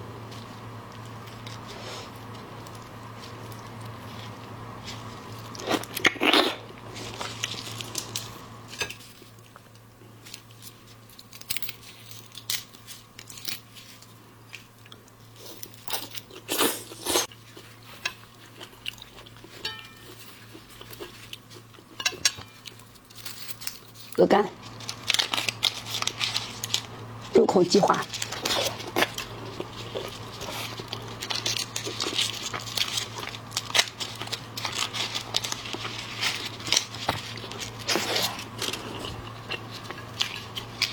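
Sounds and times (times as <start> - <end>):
crunchy chewing: 0.3 - 27.3, 28.0 - 40.9.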